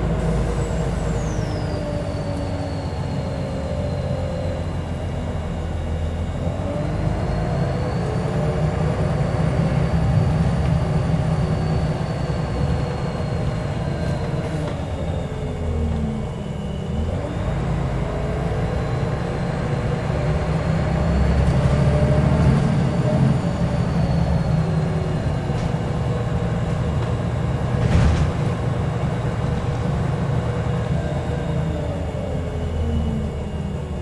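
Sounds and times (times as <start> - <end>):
bus diesel engine rumbling: 0.0 - 34.0.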